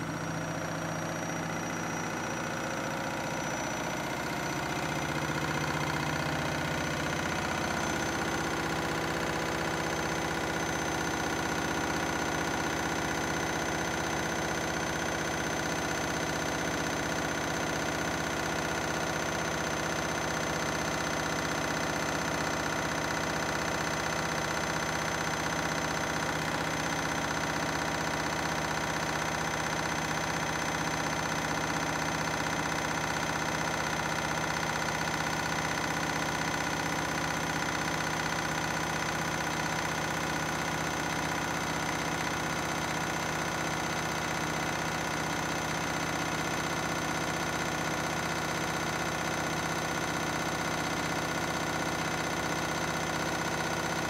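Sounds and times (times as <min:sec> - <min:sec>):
washing machine spin cycle: 0:00.0 - 0:54.0.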